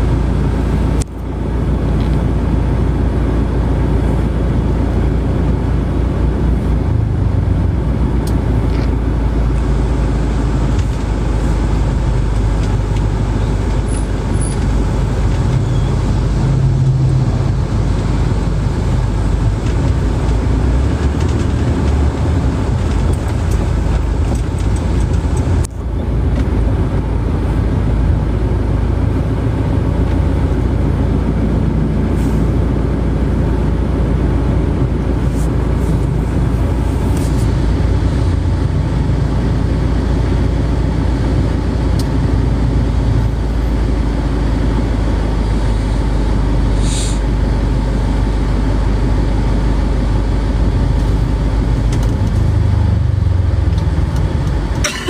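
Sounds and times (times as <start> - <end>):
vehicle road noise from inside: 0.0 - 55.0.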